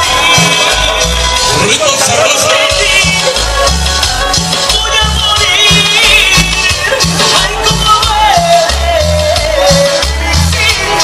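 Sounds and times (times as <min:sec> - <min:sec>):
loud latin dance music: 0:00.0 - 0:11.0.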